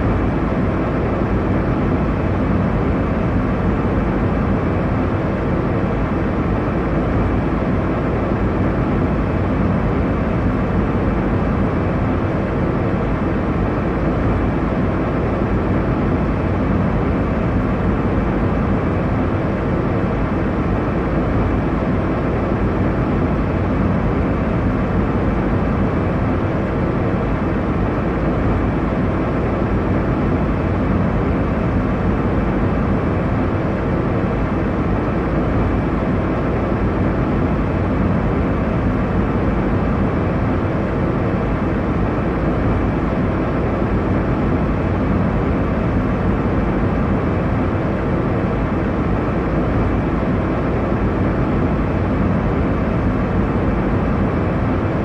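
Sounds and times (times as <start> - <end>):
airliner cabin engine rush: 0.0 - 55.0.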